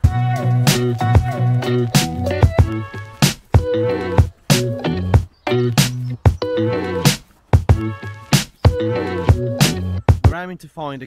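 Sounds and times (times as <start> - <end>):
regular drum beat: 0.0 - 10.4.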